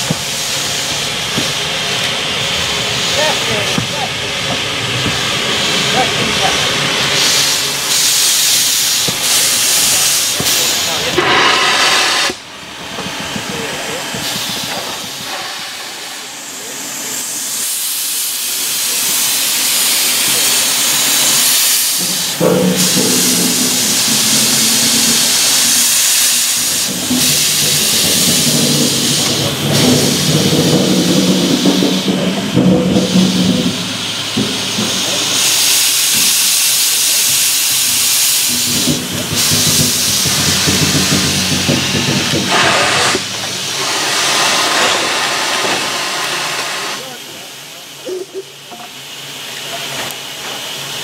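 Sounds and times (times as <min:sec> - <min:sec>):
steam locomotive hissing: 0:00.0 - 0:51.0.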